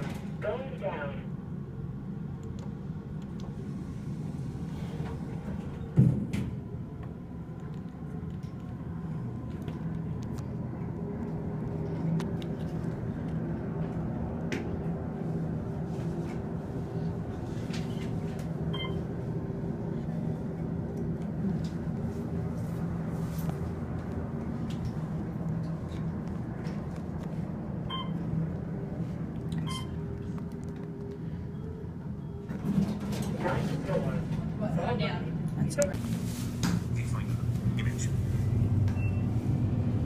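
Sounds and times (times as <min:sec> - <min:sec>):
elevator hum and rumble: 0:00.0 - 0:40.0.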